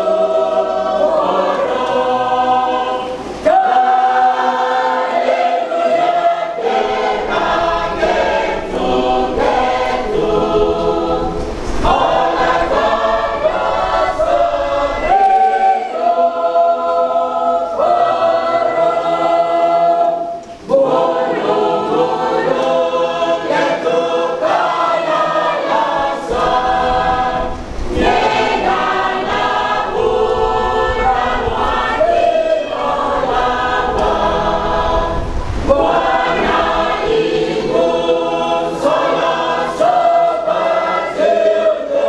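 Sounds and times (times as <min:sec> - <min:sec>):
choir singing in harmony: 0:00.0 - 0:42.0.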